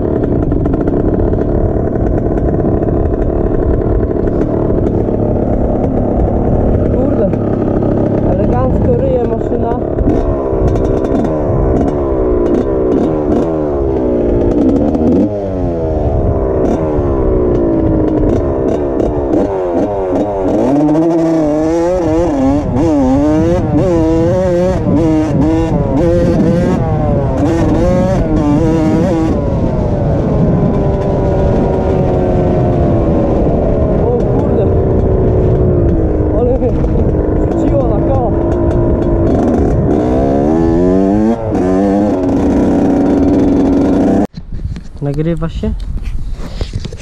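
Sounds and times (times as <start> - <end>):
dirt bike engine revving: 0.0 - 44.3.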